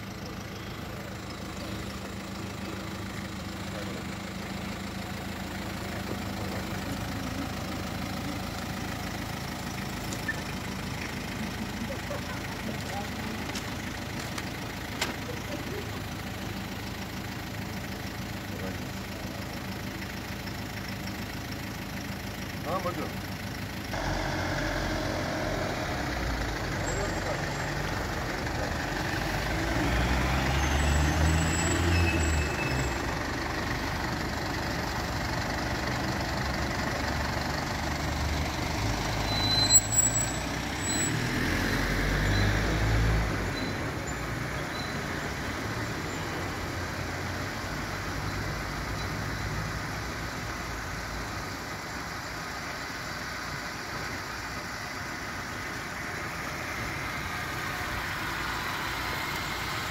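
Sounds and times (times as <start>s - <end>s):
car engines running: 0.0s - 59.9s.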